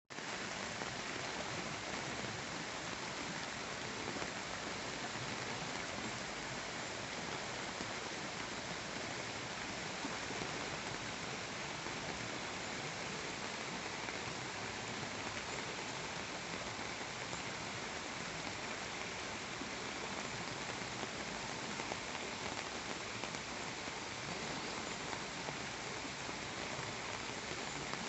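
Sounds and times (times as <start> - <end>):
rushing water hiss: 0.1 - 28.0.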